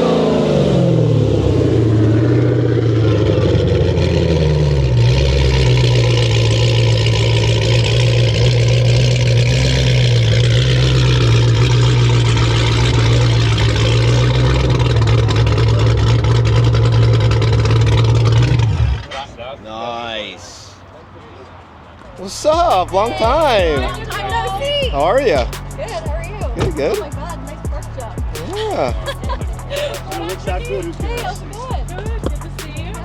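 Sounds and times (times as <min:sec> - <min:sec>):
car engine revving and idling: 0:00.0 - 0:19.6, 0:20.8 - 0:33.0.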